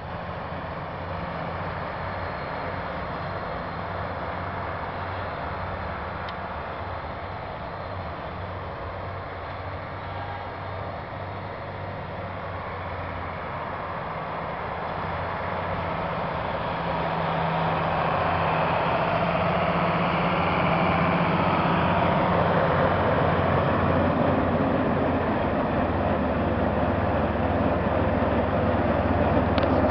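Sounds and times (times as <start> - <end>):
tractor diesel engine drone: 0.0 - 29.9.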